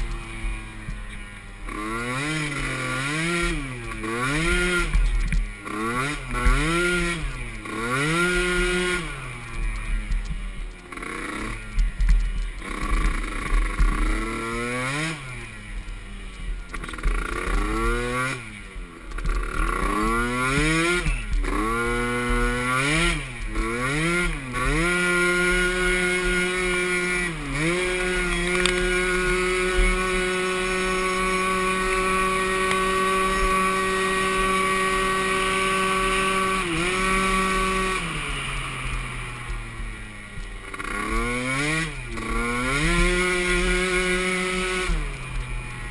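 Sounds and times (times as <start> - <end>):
small atv engine revving: 0.0 - 45.9.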